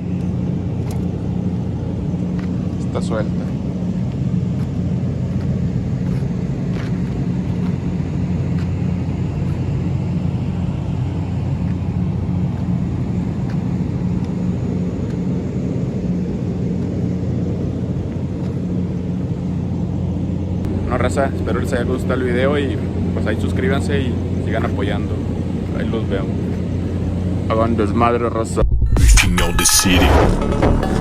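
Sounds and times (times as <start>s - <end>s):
constant hum: 0.0s - 31.0s
low mechanical rumble: 0.0s - 31.0s.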